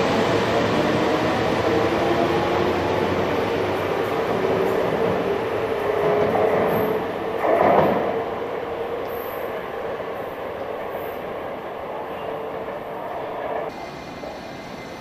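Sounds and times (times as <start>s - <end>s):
electric train rolling on rails: 0.0s - 15.0s.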